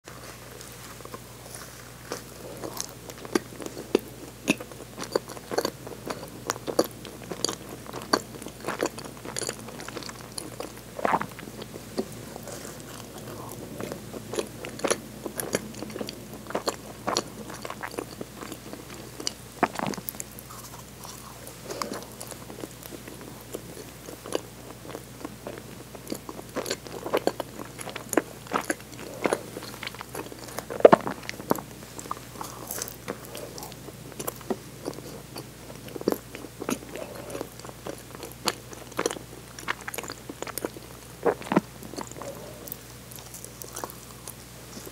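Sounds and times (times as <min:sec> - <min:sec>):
chewing bread with wet mouth clicks: 0:00.5 - 0:44.9.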